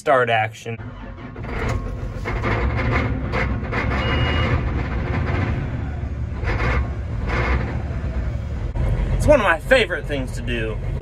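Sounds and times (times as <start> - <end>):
diesel engine starting and running: 0.2 - 11.0.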